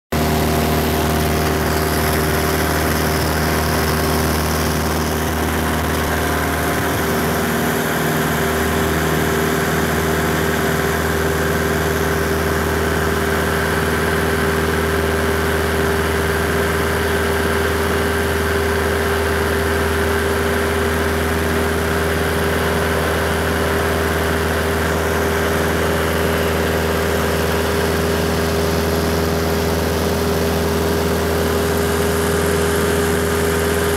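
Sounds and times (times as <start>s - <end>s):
light aircraft engine and propeller drone: 0.2s - 33.9s.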